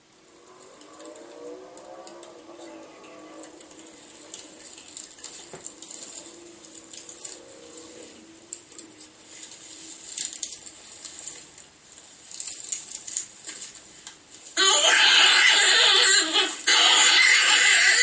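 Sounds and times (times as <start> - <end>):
faint steady hum: 0.0 - 18.0
small clicks and rustles: 0.1 - 14.6.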